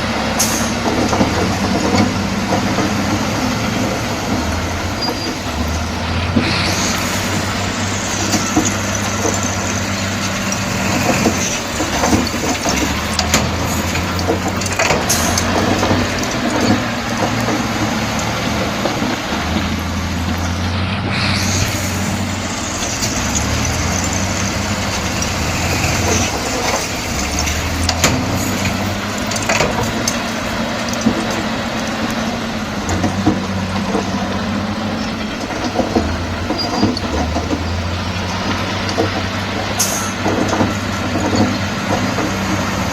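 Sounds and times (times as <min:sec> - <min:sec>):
bulldozer diesel engine: 0:00.0 - 0:42.9
machinery clatter with knocks: 0:00.0 - 0:42.9.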